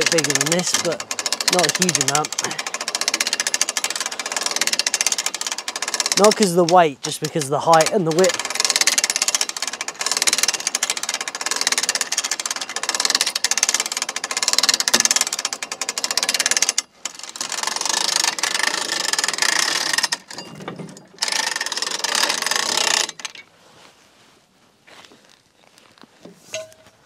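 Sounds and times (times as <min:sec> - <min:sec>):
sawmill log gear rattling: 0:00.0 - 0:23.6, 0:24.9 - 0:27.0.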